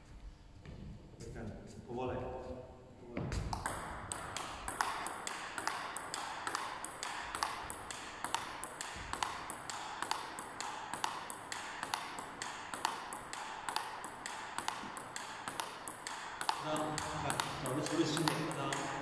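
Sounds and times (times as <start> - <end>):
table tennis ball clicking: 3.4 - 19.0.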